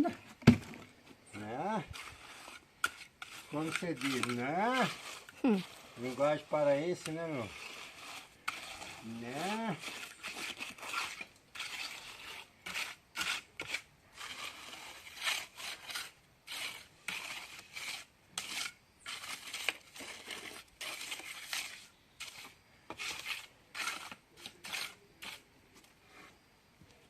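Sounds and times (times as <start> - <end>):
trowel scraping cement mortar: 1.3 - 26.4.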